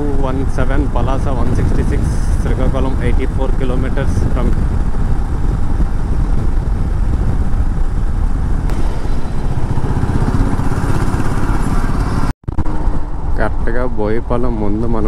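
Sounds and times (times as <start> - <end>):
motorcycle engine running: 0.0 - 13.3
wind rumble on microphone: 0.0 - 15.0.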